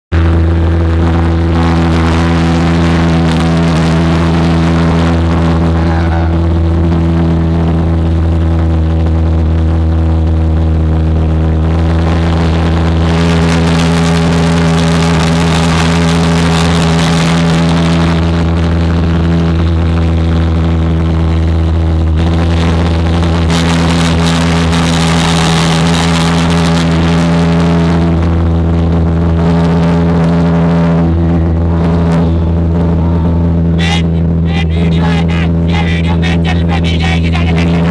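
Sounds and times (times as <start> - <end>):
pulse jet engine droning: 0.1 - 37.9.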